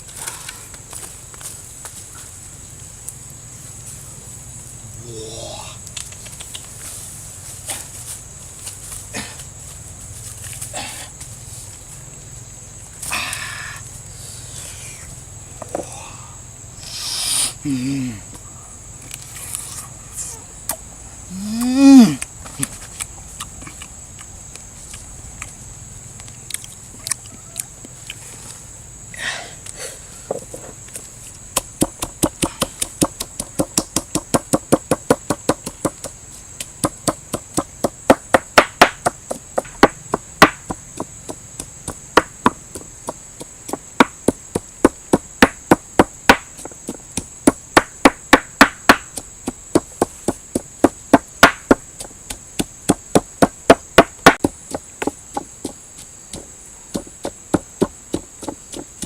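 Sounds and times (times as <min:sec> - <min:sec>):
steady high-pitched hiss: 0:00.0 - 0:59.0.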